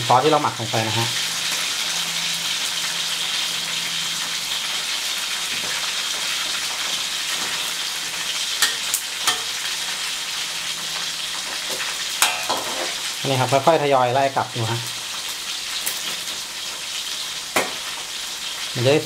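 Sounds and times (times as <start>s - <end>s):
deep-frying sizzle in oil: 0.0s - 19.0s.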